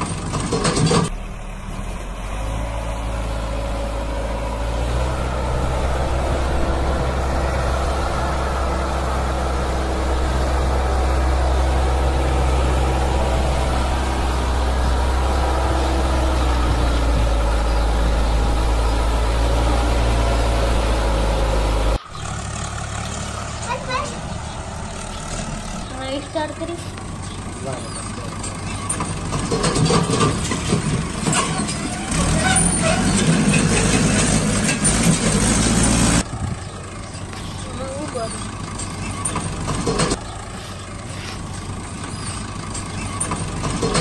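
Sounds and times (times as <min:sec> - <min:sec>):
low motor hum: 0:00.0 - 0:44.0.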